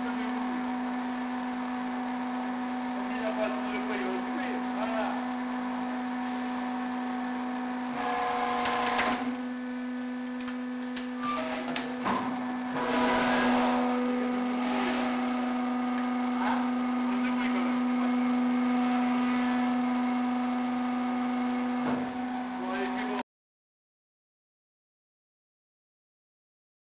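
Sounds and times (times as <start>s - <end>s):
hydraulic log splitter humming: 0.0s - 23.2s.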